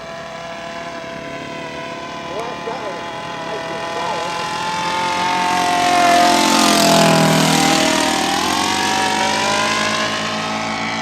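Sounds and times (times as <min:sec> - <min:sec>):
model plane engine flyby: 0:00.0 - 0:11.0.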